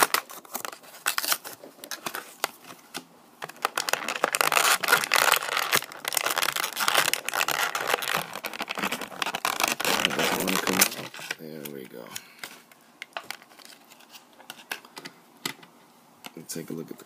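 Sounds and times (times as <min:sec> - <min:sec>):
plastic packaging crinkling and tearing: 0:00.0 - 0:14.8.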